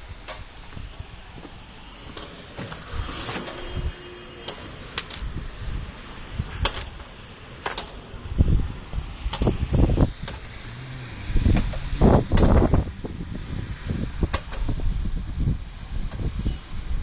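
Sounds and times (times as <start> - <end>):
rain hissing: 0.0 - 17.0
wind buffeting microphone: 0.0 - 17.0.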